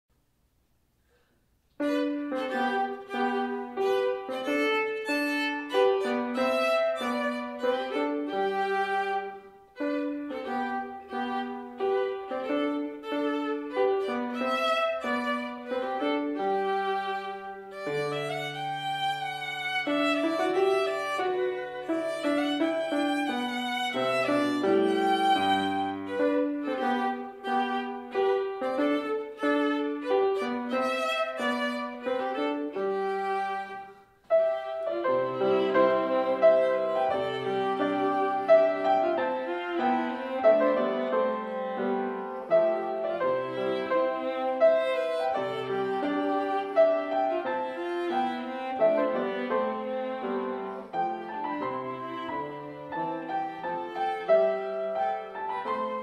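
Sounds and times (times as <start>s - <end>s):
piano: 0.1s - 56.0s
viola: 1.7s - 56.0s.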